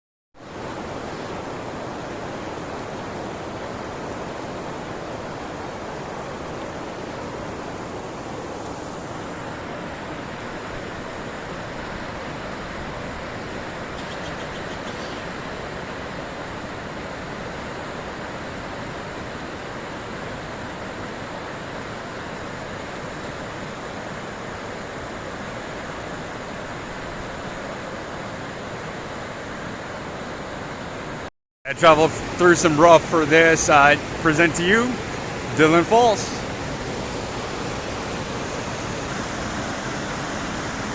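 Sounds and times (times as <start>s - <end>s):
whitewater rushing over falls: 0.4s - 40.9s.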